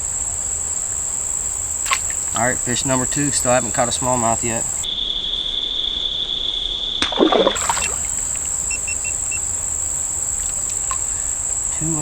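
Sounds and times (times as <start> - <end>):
splash in creek water: 0.0 - 4.8, 7.0 - 12.0
insects droning: 0.0 - 5.4, 6.2 - 12.0.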